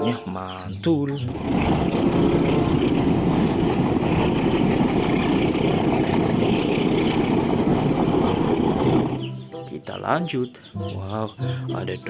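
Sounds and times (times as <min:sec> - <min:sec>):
wheels rumbling on track: 0:00.0 - 0:10.2
diesel train passing: 0:01.2 - 0:12.0.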